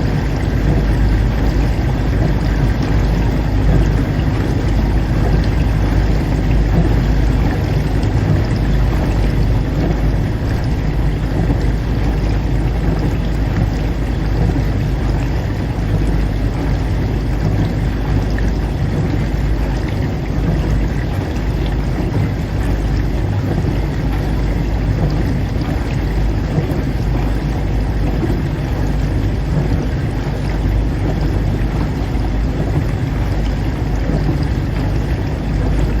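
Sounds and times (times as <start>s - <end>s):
dishwasher running: 0.0s - 36.0s.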